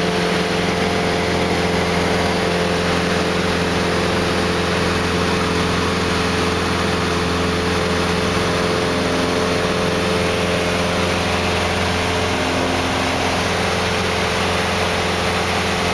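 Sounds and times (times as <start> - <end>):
light aircraft engine drone: 0.0 - 15.9.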